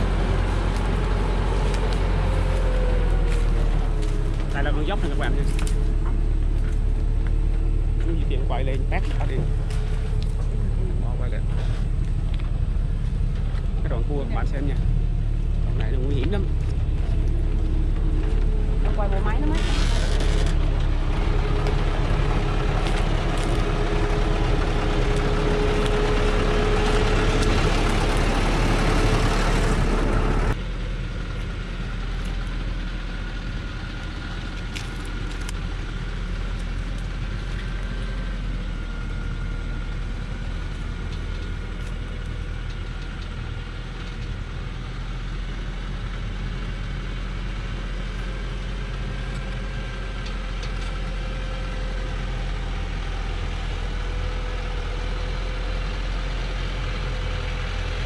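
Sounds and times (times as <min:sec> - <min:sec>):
diesel truck engine working hard: 0:00.0 - 0:58.0
steady whine: 0:00.0 - 0:58.0.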